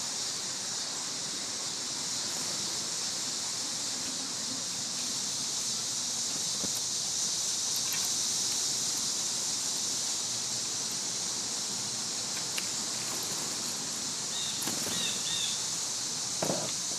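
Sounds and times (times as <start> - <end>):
cicadas droning: 0.0 - 16.9.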